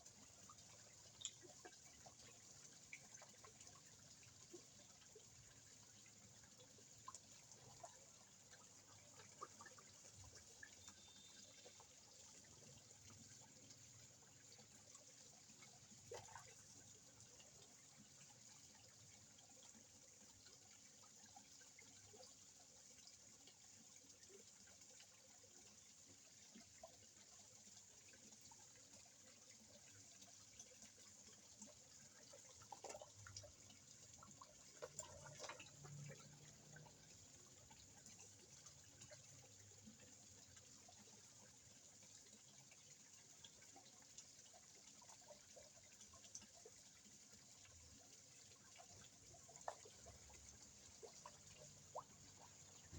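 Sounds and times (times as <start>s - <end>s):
small water splashes and plops: 0.0s - 52.9s
water trickling and dripping: 0.0s - 52.9s.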